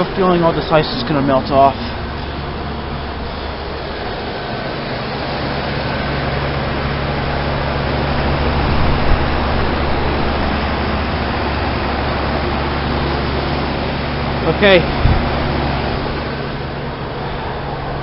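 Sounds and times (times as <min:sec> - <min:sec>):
compressor hum: 0:00.0 - 0:18.0
fan rushing air: 0:00.0 - 0:18.0.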